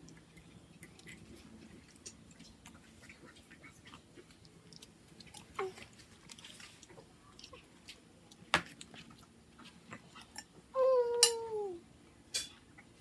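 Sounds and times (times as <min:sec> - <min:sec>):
children eating: 0:00.0 - 0:11.5.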